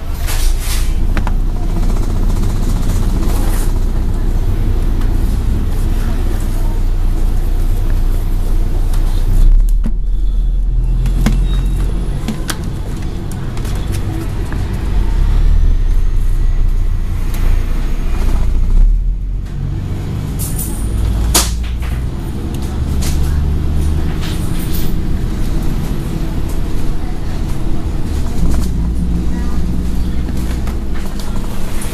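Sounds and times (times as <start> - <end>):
bus diesel engine running: 0.0 - 31.9.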